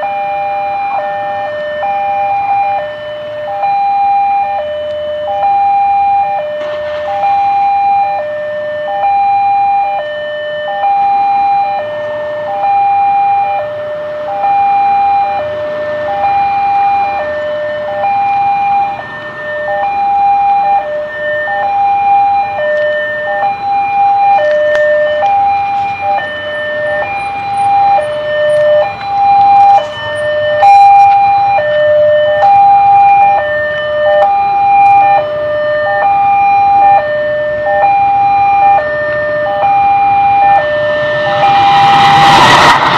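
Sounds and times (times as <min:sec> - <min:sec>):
level crossing two-tone alarm: 0:00.0 - 0:42.8
motorcycles and traffic: 0:00.0 - 0:42.9.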